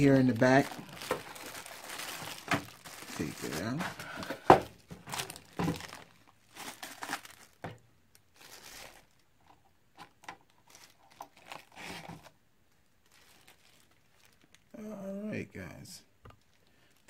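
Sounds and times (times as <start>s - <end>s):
plastic bags crinkling: 0.0s - 9.3s, 10.0s - 12.4s, 13.0s - 14.7s, 16.4s - 17.0s.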